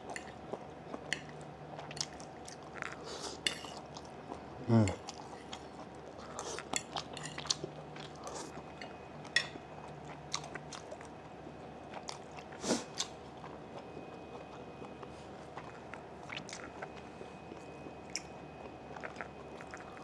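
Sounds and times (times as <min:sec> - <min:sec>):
person chewing: 0:00.0 - 0:11.2, 0:11.9 - 0:20.0.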